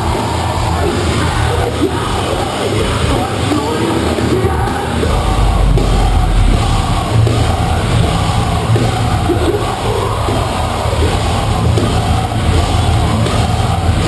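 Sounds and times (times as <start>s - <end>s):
bass guitar: 0.0s - 14.0s
drums: 0.0s - 14.0s
heavy guitars: 0.0s - 14.0s
yelled vocals: 0.0s - 14.0s.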